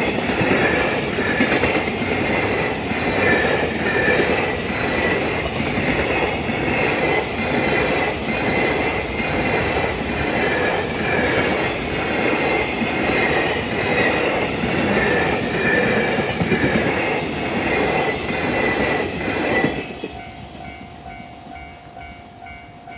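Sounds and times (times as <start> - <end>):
high wheel squeal: 0.0 - 20.8
freight train rumbling past: 0.0 - 22.9
level crossing warning bell: 0.0 - 22.9.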